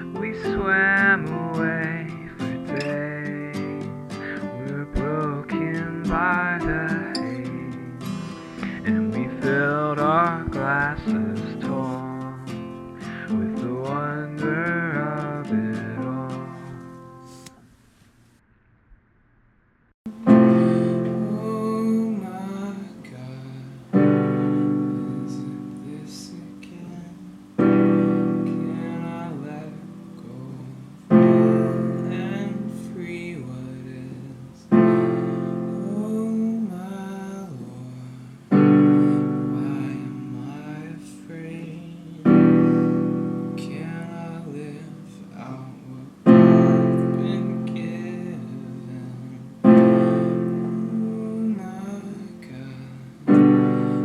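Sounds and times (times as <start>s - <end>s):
piano playing slow chords: 0.0s - 17.5s, 20.1s - 54.0s.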